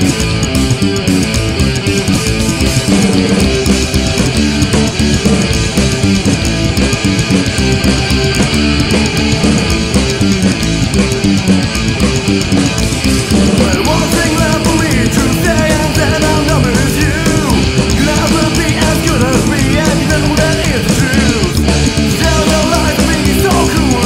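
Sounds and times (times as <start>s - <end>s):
bass guitar: 0.0s - 24.0s
electric guitar: 0.0s - 24.0s
punk rock instrumental: 0.0s - 24.0s
steady drum beat: 0.0s - 24.0s.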